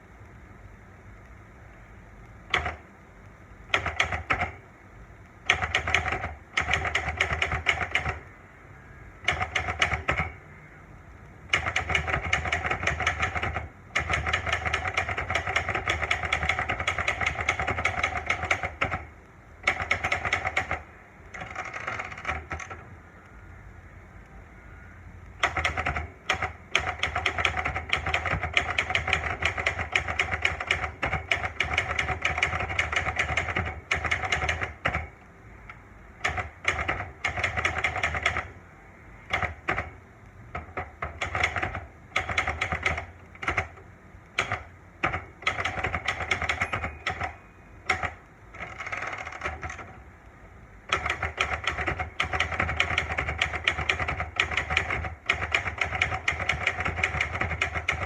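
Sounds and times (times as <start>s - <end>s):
typewriter keystrokes clacking: 2.5s - 2.8s, 3.7s - 4.6s, 5.4s - 8.3s, 9.2s - 10.4s, 11.5s - 22.9s, 25.4s - 38.6s, 39.2s - 50.0s, 50.9s - 58.0s.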